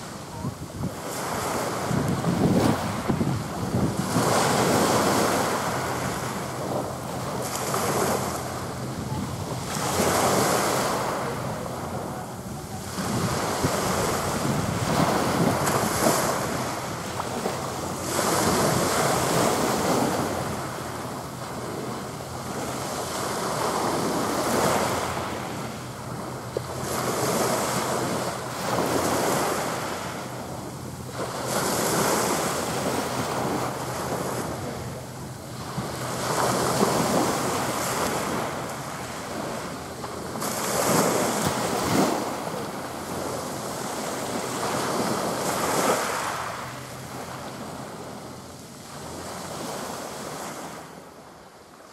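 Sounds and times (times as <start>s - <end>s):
wind buffeting microphone: 0.0s - 46.1s
small waves washing on shore: 0.0s - 51.9s.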